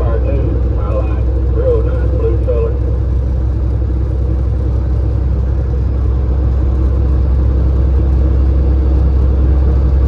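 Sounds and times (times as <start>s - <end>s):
truck engine and road noise: 0.0s - 10.0s.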